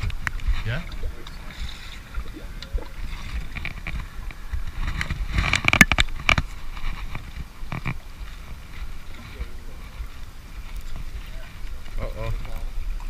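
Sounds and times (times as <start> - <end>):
boat engine rumble: 0.0 - 13.0
wind rumble: 0.0 - 13.0.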